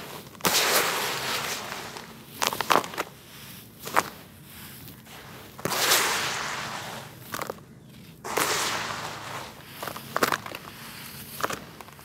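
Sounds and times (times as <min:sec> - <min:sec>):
dirt crunching: 0:00.0 - 0:12.0
gritty rustle of falling dirt: 0:00.0 - 0:12.0.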